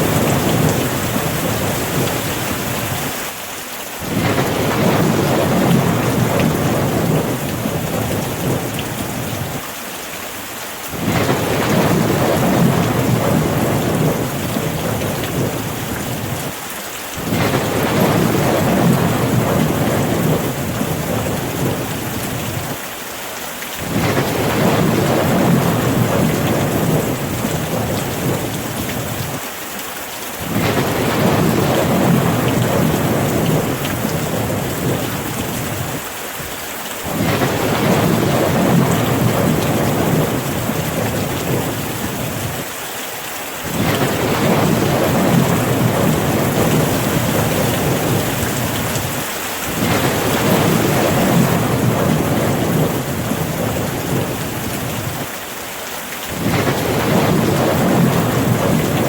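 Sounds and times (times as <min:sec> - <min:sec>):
rolling thunder rumble: 0:00.0 - 0:03.1, 0:04.1 - 0:09.6, 0:11.0 - 0:16.6, 0:17.2 - 0:22.8, 0:23.8 - 0:29.4, 0:30.4 - 0:36.0, 0:37.0 - 0:42.6, 0:43.6 - 0:55.3, 0:56.3 - 0:59.0
steady rain: 0:00.0 - 0:59.0.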